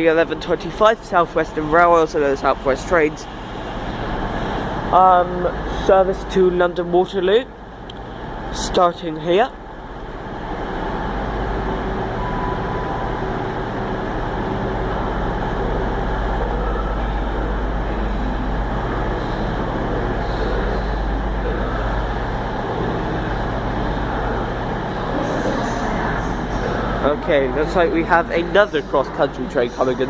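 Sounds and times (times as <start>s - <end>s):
train diesel engines droning: 0.0s - 30.0s.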